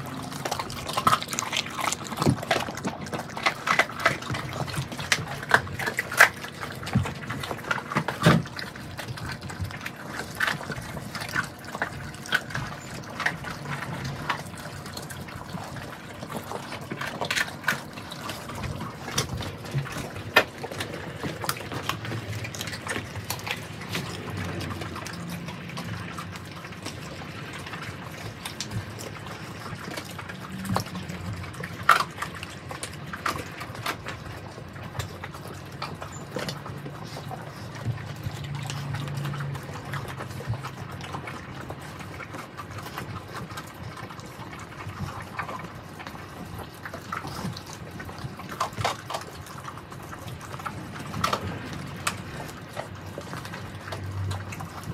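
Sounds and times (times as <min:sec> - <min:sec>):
bones crunching: 0:00.0 - 0:54.9
puppies wet chewing: 0:00.0 - 0:54.9.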